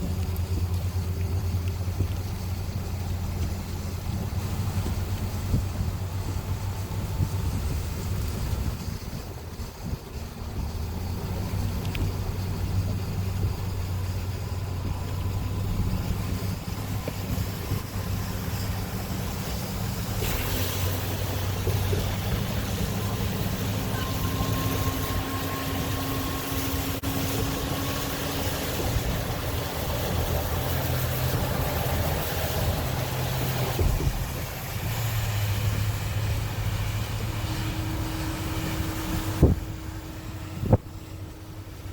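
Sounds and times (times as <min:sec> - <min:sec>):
engine running steadily: 0:00.0 - 0:41.9
wind noise: 0:00.0 - 0:41.9.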